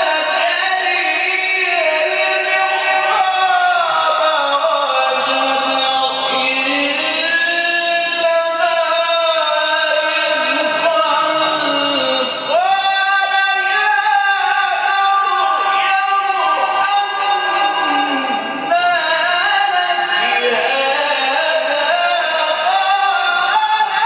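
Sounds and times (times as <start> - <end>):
man chanting melodic recitation: 0.0 - 24.0.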